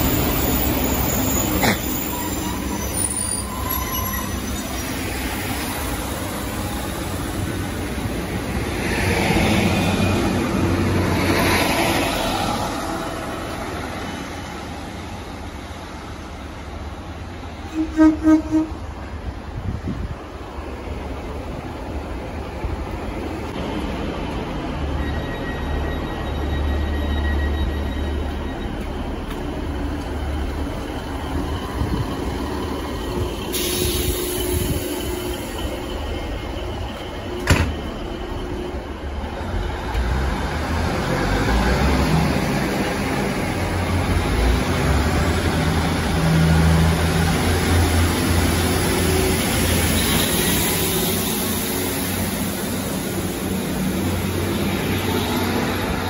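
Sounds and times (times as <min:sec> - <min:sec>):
train engine and wheels passing: 0:00.0 - 0:56.0.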